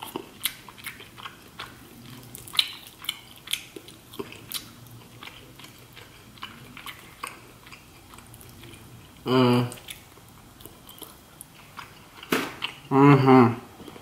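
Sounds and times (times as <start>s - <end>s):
chewing: 0.0s - 12.9s.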